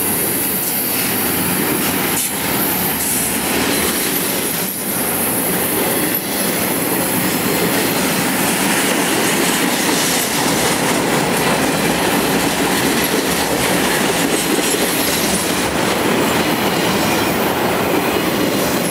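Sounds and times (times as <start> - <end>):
freight train wheels rumbling: 0.0 - 18.9
wheels clicking over rail joints: 1.6 - 18.9.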